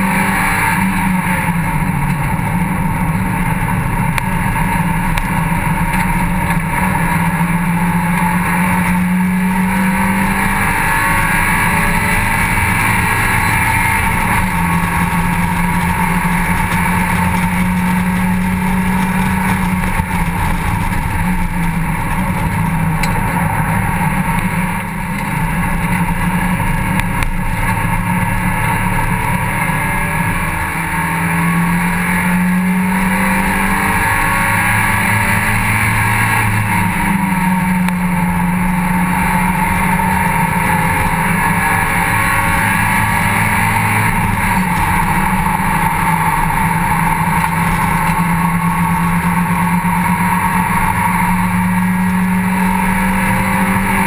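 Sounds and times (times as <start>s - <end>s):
racing car engine revving: 0.0s - 54.0s
rushing wind: 0.0s - 54.0s.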